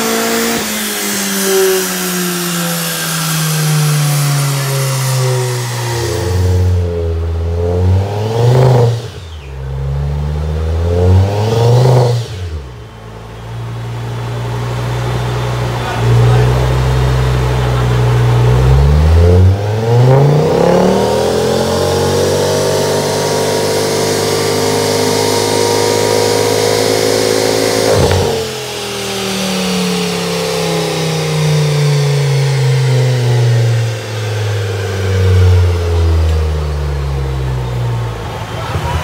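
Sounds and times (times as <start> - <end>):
car engine revving at full throttle: 0.0 - 39.0.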